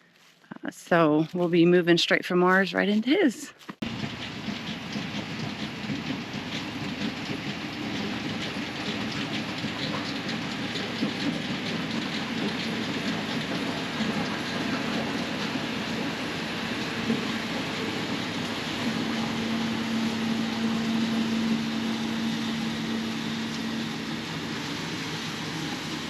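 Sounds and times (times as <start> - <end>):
vehicle running: 2.4 - 26.0.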